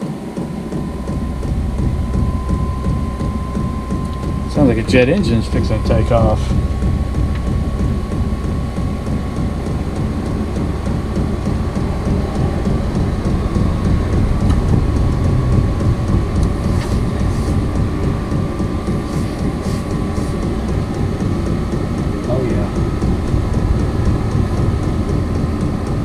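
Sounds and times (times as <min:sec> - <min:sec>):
heater blower running: 0:00.0 - 0:26.0
thin whine rising in pitch: 0:00.0 - 0:26.0.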